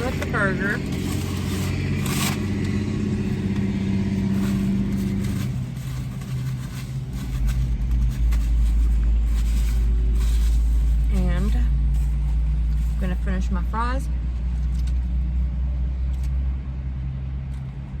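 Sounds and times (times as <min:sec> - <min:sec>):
deep low rumble: 0:00.0 - 0:16.2
vehicle engine humming: 0:00.0 - 0:18.0.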